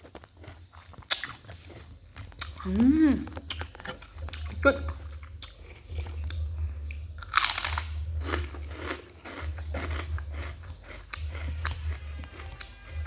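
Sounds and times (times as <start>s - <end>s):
person biting crunchy fruit: 0.0s - 2.7s, 5.1s - 13.0s
wet chewing crunches: 0.0s - 13.0s.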